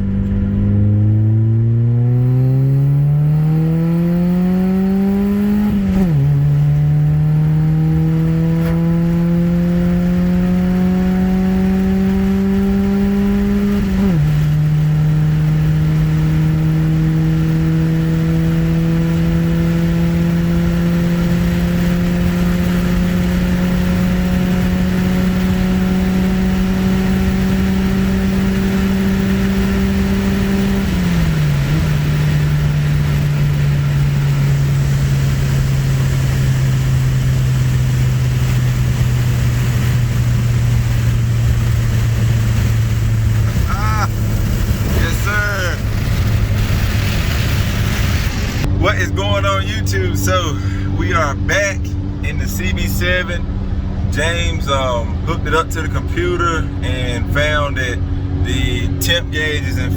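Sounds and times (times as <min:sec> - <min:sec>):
car engine shifting gears: 0:00.0 - 0:59.9.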